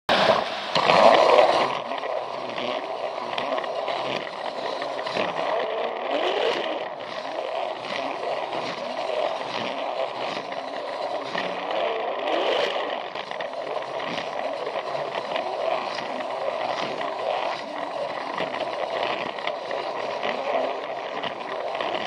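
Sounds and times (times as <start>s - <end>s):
toy train motor whirring: 0.2s - 22.0s
toy train wheels rattling on track: 0.7s - 22.0s.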